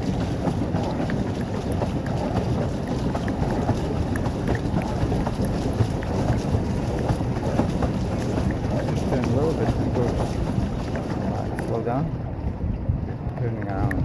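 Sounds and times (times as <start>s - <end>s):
paddle wheel churning water: 0.0s - 14.0s
small water splashes: 0.0s - 14.0s
wind on microphone: 0.0s - 14.0s.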